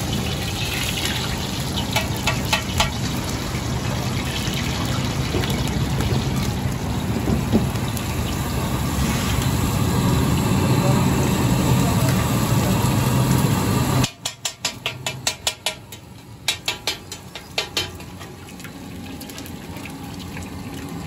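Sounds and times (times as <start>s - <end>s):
egg sizzling in oil: 0.0s - 21.0s.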